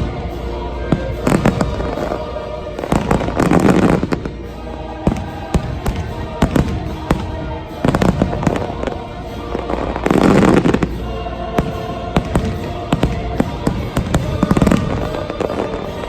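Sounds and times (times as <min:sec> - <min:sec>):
dense fireworks crackling: 0:00.0 - 0:16.0
music soundtrack: 0:00.0 - 0:16.0
fireworks bangs: 0:00.9 - 0:02.2, 0:02.8 - 0:04.4, 0:05.0 - 0:10.9, 0:11.6 - 0:16.0.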